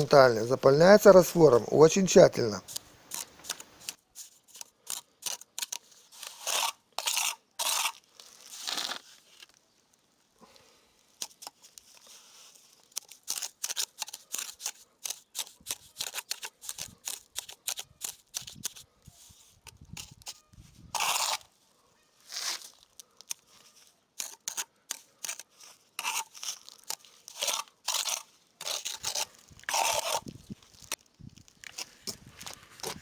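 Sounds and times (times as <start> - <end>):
trowel scraping mortar: 2.6 - 9.2, 11.1 - 21.6, 22.2 - 31.0, 31.6 - 33.0.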